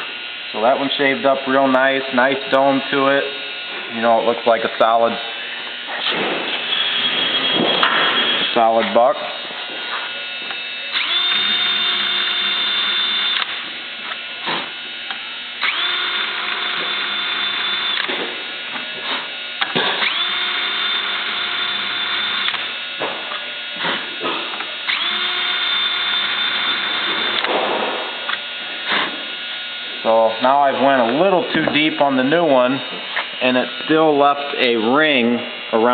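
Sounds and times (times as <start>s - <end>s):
rivet shaver high whine: 0.0s - 35.9s.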